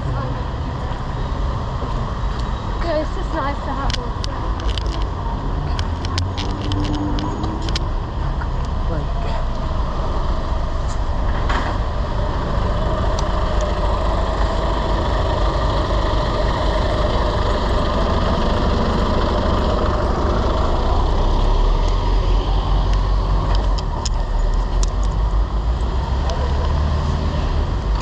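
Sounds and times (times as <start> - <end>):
low rumble of motor vehicles: 0.0 - 28.0.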